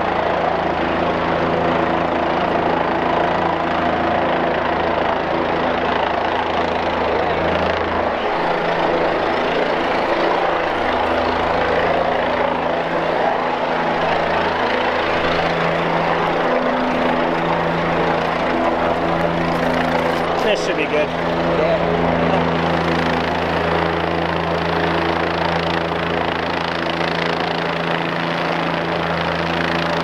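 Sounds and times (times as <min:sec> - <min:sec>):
helicopter rotors and turbine: 0:00.0 - 0:30.0.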